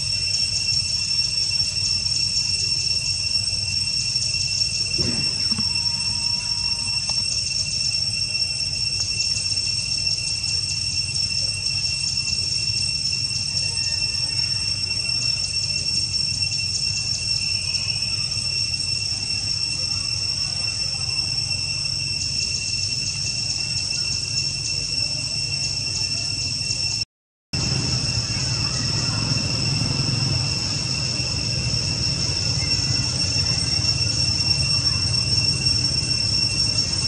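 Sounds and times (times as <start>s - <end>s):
high-pitched insect chorus: 0.0s - 27.0s, 27.6s - 37.0s.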